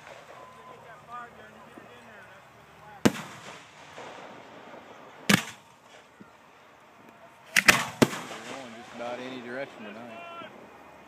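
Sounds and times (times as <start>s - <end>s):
fireworks bangs: 0.0s - 2.1s, 2.8s - 6.7s, 7.3s - 10.9s.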